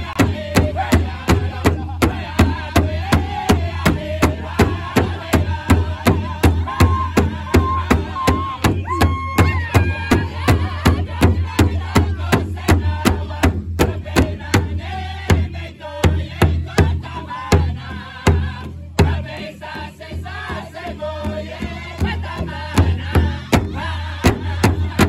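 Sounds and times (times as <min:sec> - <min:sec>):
men chanting together: 0:00.0 - 0:08.8, 0:09.5 - 0:25.0
large drum beating: 0:00.0 - 0:25.0.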